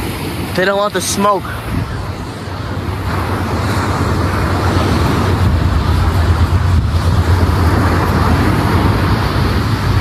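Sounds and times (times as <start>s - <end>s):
surf: 0.0s - 10.0s
wind buffeting microphone: 0.0s - 10.0s.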